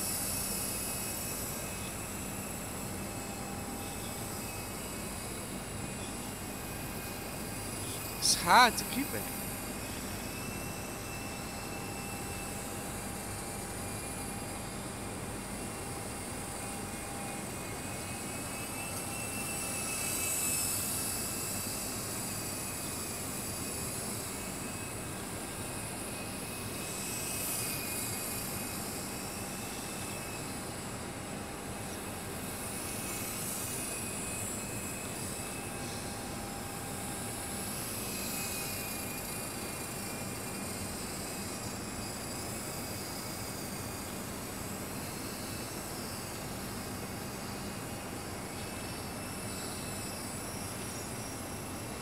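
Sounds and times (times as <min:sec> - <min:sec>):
model helicopter motor whine: 0:00.0 - 0:52.0.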